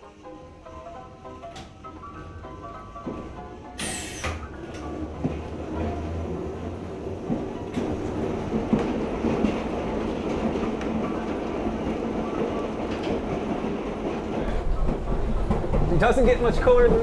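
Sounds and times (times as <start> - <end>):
trolley wheels rumbling on rail: 0.0 - 17.0
trolley clicks: 2.9 - 17.0.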